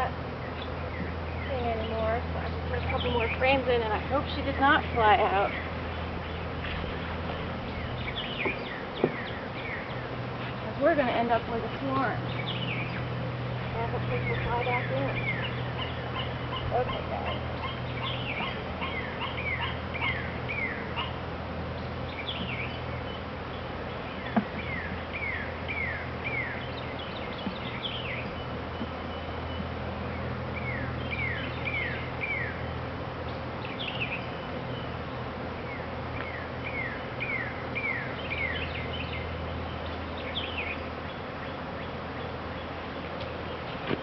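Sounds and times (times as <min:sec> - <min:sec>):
honeybees buzzing: 0:00.0 - 0:44.0
bird chirping: 0:00.4 - 0:44.0.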